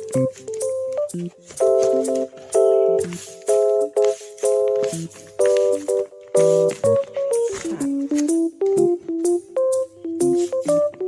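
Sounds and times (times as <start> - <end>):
bright keyboard chords: 0.0 - 11.0.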